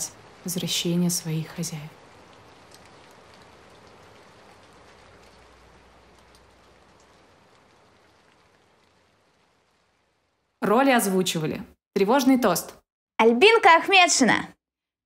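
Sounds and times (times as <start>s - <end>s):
rain falling steadily: 0.0s - 12.8s.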